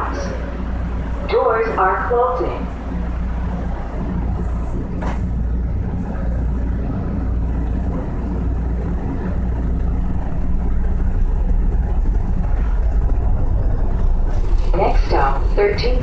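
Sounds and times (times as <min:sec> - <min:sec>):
subway car rumbling: 0:00.0 - 0:16.0.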